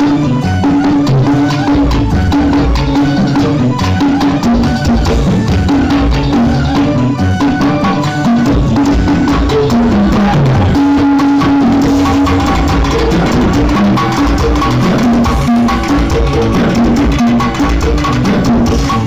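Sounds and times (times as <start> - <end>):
loud music with drums and bass: 0.0 - 19.0.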